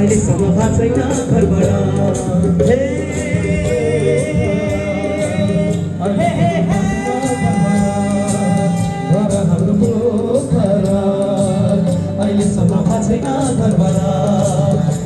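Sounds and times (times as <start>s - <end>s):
instrumental accompaniment with beat: 0.0s - 15.0s
person singing long notes: 0.0s - 15.0s.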